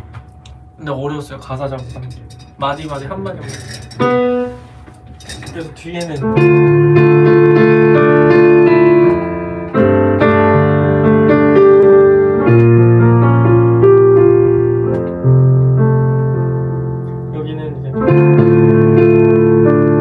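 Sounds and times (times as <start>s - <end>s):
piano chords and notes: 0.0s - 20.0s.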